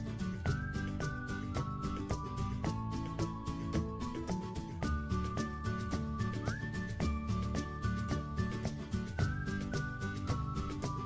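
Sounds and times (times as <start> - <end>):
background music with quick beat: 0.0 - 11.0.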